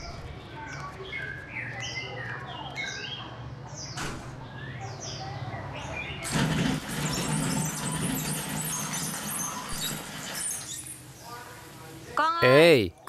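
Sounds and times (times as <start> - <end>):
small birds chirping: 0.0 - 6.3, 7.1 - 12.2.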